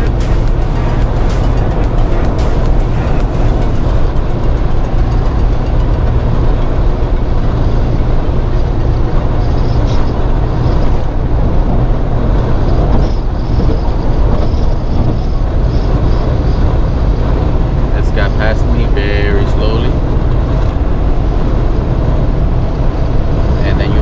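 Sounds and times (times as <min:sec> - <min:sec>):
road and wind noise in car: 0:00.0 - 0:24.0.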